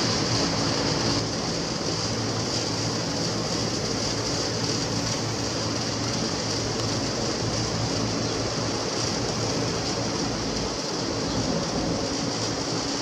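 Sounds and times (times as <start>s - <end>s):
jet airliner roaring overhead: 0.0s - 13.0s.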